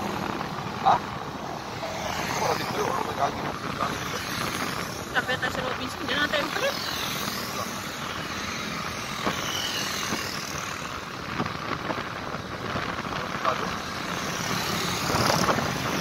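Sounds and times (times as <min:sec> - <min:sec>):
motorcycle road and wind noise: 0:00.0 - 0:16.0.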